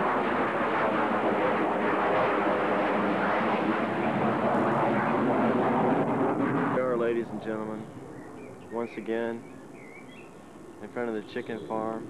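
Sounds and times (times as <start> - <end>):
jet roar taking off: 0.0 - 9.8.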